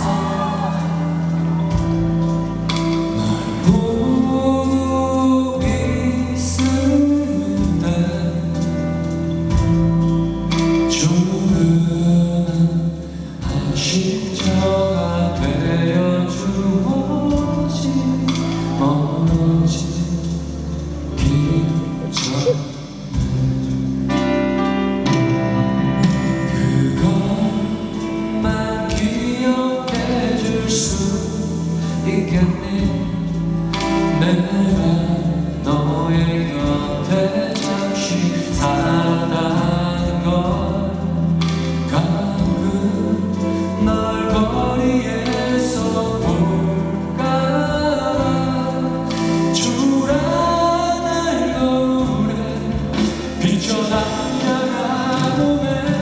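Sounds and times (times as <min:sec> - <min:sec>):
keyboard playing: 0:00.0 - 0:56.0
man singing a slow ballad: 0:00.0 - 0:56.0.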